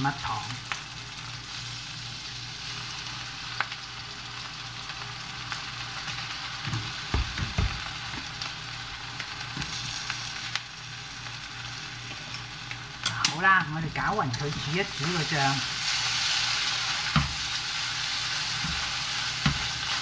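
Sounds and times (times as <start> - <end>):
egg yolk sizzling in a pan: 0.0 - 20.0.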